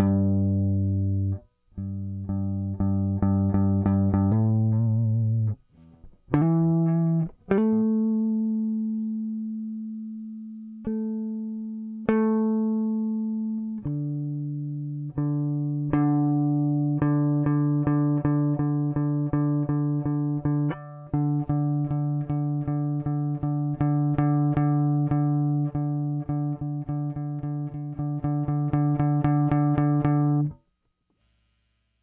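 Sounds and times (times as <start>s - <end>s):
electric guitar picking low note: 0.0s - 5.6s, 6.3s - 30.5s.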